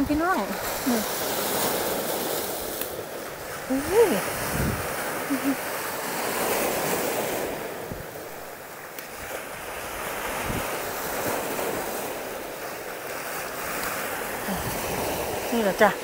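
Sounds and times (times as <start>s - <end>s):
sea surf on rocky shore: 0.0s - 16.0s
wind buffeting microphone: 0.0s - 16.0s.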